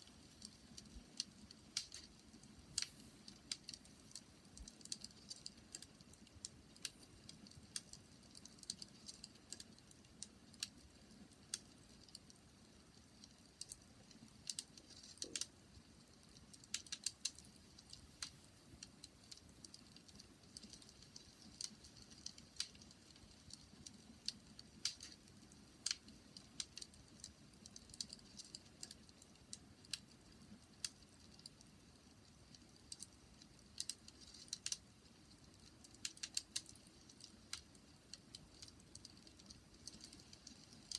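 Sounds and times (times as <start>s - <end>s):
soft low hiss: 0.0s - 40.9s
wood fire crackling: 0.0s - 40.9s.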